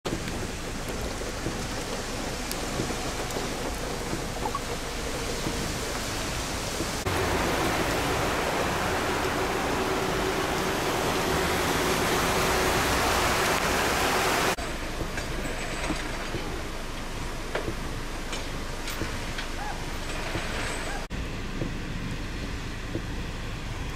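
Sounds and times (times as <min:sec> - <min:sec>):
heavy rain falling: 0:00.0 - 0:21.1.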